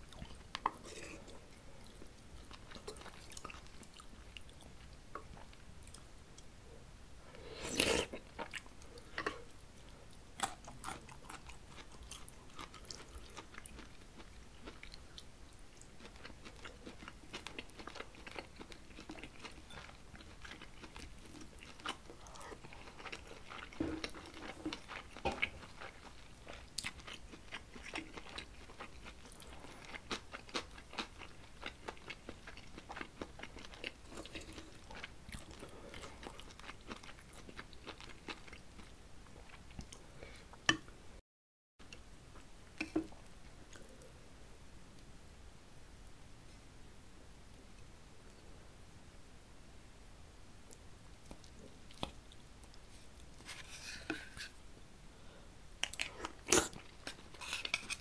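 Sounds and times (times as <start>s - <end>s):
man chewing food: 0.0s - 6.5s, 7.3s - 41.0s, 41.8s - 44.1s, 50.7s - 54.6s, 55.8s - 58.0s.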